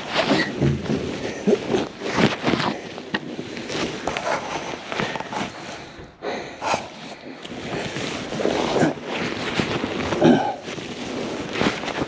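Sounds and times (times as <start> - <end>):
clothing handling noise on microphone: 0.0 - 12.0
person crawling rustling and scraping: 0.0 - 12.0.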